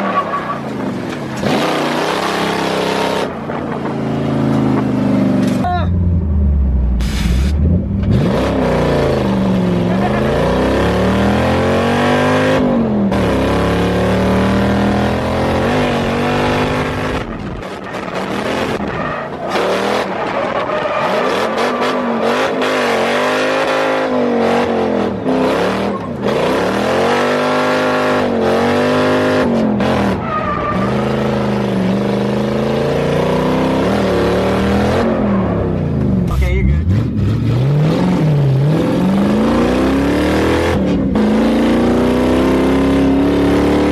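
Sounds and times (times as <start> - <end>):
car engine revving: 0.0 - 43.9
tyres skidding and squealing: 0.0 - 43.9.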